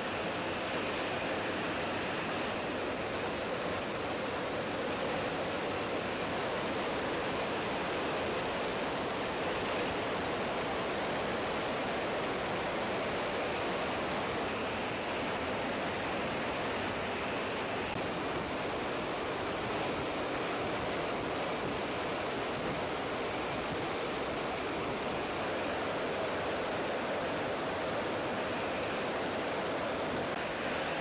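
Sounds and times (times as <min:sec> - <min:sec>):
turboprop engines: 0:00.0 - 0:31.0.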